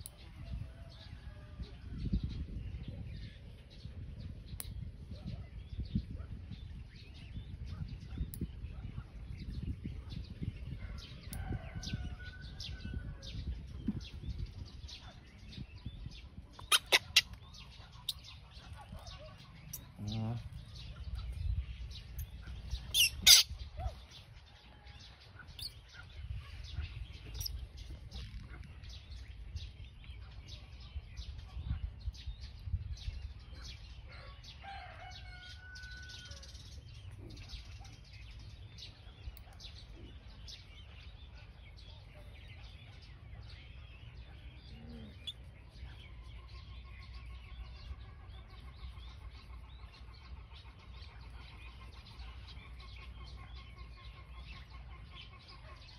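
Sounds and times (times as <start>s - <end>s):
birds chirping: 2.0s - 55.9s.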